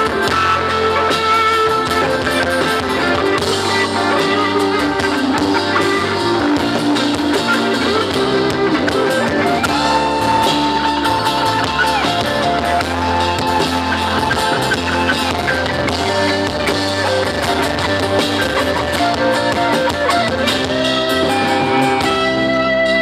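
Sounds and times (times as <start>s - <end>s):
bass guitar: 0.0s - 23.0s
drum kit: 0.0s - 23.0s
lead guitar: 0.0s - 23.0s.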